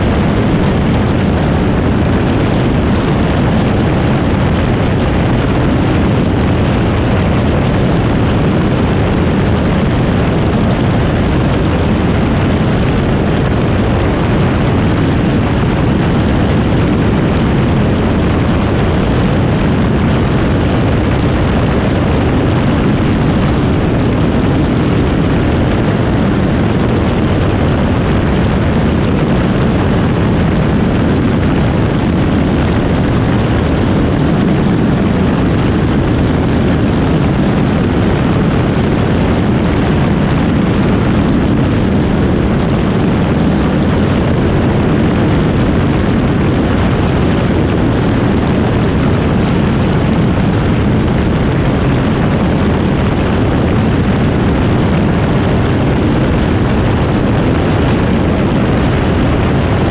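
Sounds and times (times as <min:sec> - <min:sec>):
aircraft engine drone: 0:00.0 - 0:59.9
wind buffeting microphone: 0:00.0 - 0:59.9.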